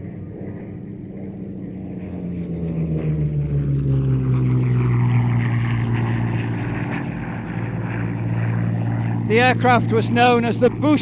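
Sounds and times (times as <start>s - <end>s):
propeller plane passing overhead: 0.0s - 11.0s.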